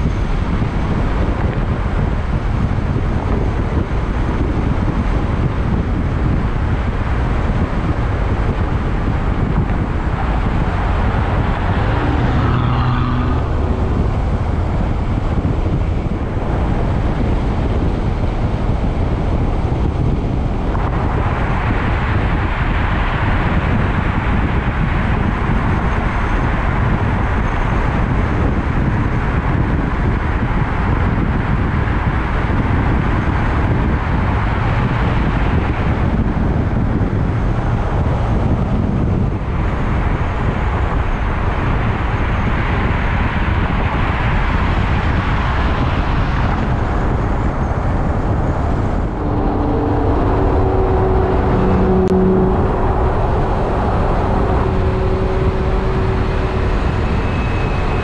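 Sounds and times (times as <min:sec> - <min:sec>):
car engine hum: 0:00.0 - 0:58.0
road noise: 0:00.0 - 0:58.0
wind rush: 0:00.0 - 0:58.0.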